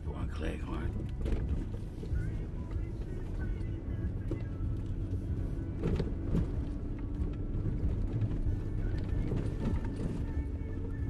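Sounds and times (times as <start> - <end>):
car engine and tyres driving: 0.0 - 11.0
music: 0.0 - 11.0.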